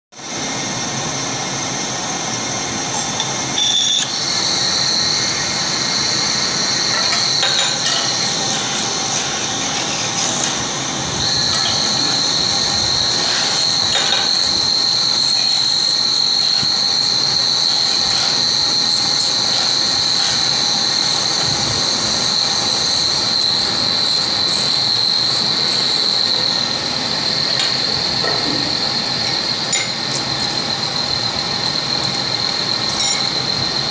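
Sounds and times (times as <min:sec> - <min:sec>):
lathe cutting tool squealing: 0:03.0 - 0:33.9.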